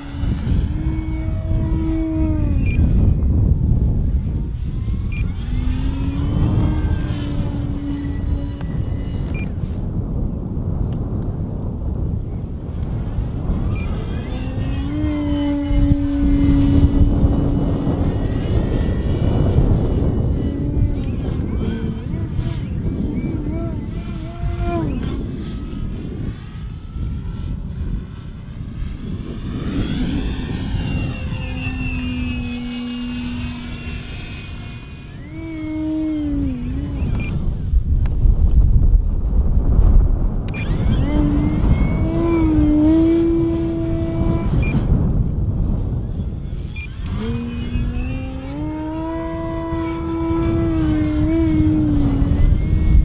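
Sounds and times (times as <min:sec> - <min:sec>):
model plane motor whining: 0:00.0 - 0:53.0
wind rumble on microphone: 0:00.0 - 0:53.0.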